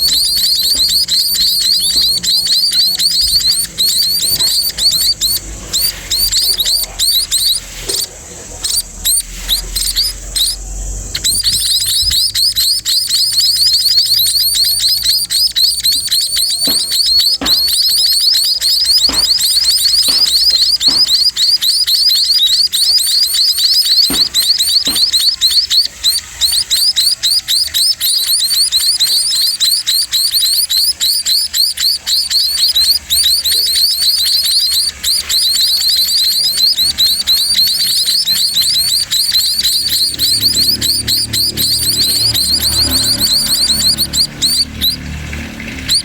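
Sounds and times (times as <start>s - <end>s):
sparrows chirping rapidly: 0.0s - 46.0s.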